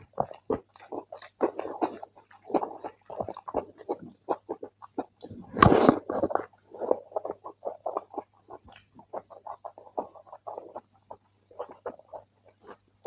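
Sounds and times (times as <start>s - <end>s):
wet chewing sounds: 0.0s - 13.0s.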